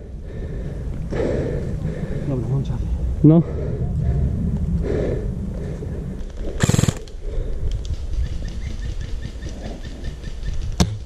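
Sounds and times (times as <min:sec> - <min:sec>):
faint outdoor background: 0:00.0 - 0:11.0.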